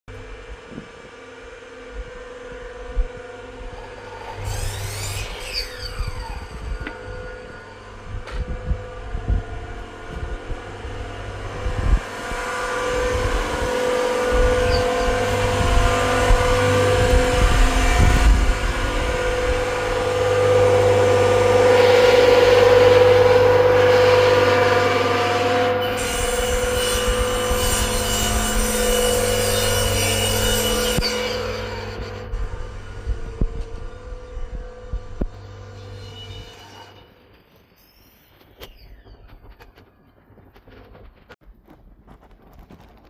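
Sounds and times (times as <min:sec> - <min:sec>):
power saw cutting wood: 0:01.6 - 0:34.3, 0:35.2 - 0:37.3.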